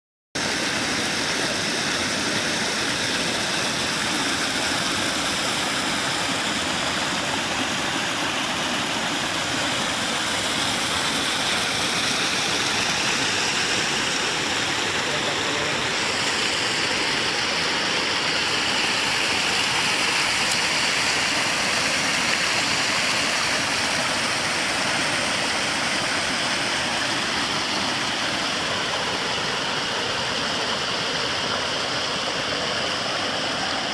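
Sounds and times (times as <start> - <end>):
waterfall rushing: 0.4 - 33.9.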